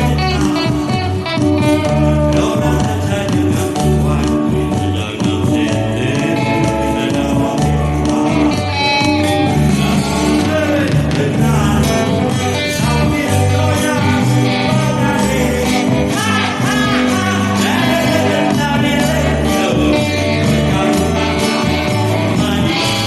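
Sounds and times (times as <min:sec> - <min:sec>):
bass: 0:00.0 - 0:23.0
guitar: 0:00.0 - 0:23.0
steady drum beat: 0:00.0 - 0:23.0.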